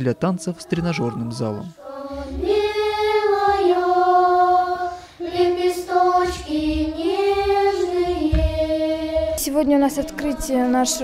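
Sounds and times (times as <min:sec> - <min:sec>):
girls choir singing: 0:00.0 - 0:11.0.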